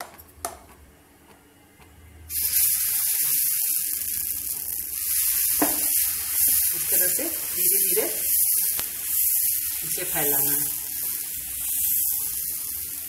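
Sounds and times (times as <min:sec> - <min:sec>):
batter sizzling on griddle: 0:02.3 - 0:13.0.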